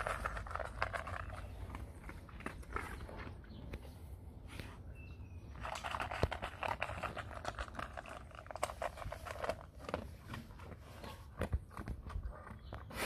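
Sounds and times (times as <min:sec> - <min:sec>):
dog crunching dry kibble: 0:00.0 - 0:04.0, 0:05.4 - 0:13.0.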